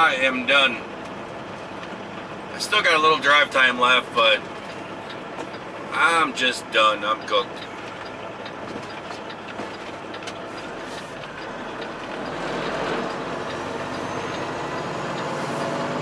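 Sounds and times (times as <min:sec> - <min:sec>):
road noise: 0:00.0 - 0:16.0
truck engine running: 0:00.0 - 0:16.0.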